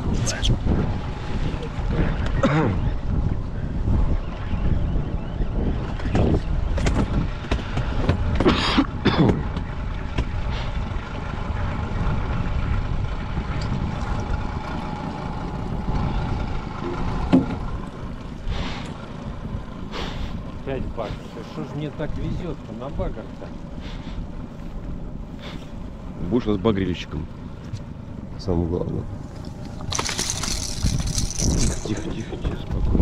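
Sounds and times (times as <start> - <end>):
boat motor rumbling: 0.0 - 33.0.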